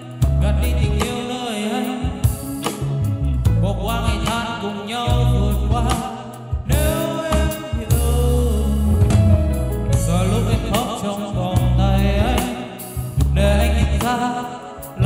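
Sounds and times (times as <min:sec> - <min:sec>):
backing track with heavy bass: 0:00.0 - 0:15.0
man singing into microphone: 0:00.0 - 0:15.0.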